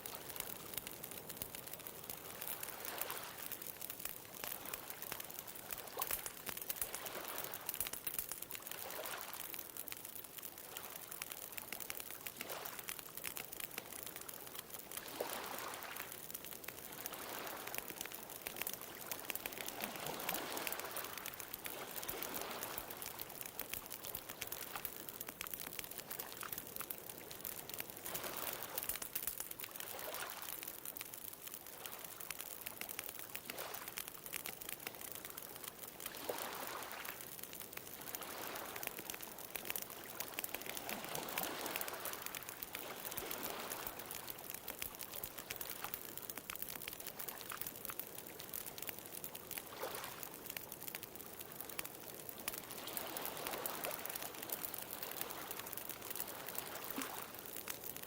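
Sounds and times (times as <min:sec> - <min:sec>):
wood bonfire crackling: 0:00.0 - 0:58.0.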